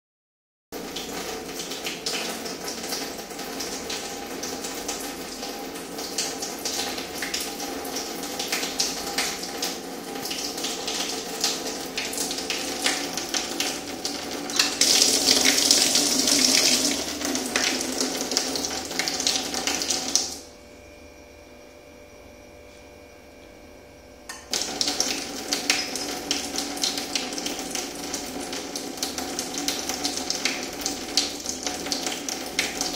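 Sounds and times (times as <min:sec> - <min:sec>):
tap water splashing into sink: 0:00.8 - 0:20.4, 0:24.3 - 0:32.9.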